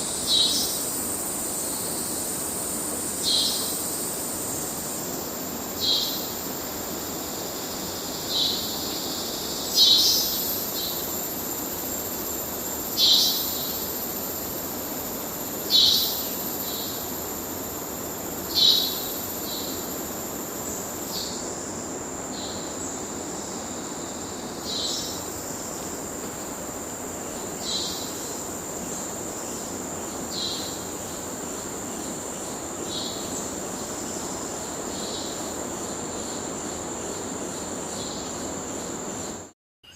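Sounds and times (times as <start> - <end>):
high insect drone: 0.0 - 39.9
steady hiss: 0.0 - 39.9.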